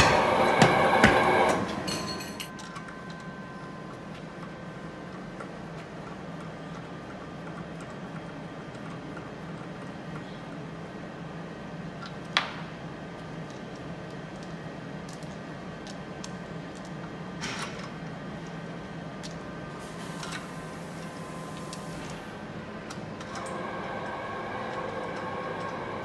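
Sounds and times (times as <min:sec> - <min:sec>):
low workshop hum: 0:00.0 - 0:26.0.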